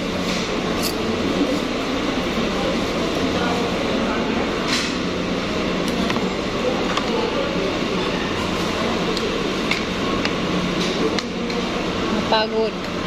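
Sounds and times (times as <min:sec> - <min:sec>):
restaurant room hum: 0:00.0 - 0:13.0
faint background voices: 0:00.3 - 0:13.0.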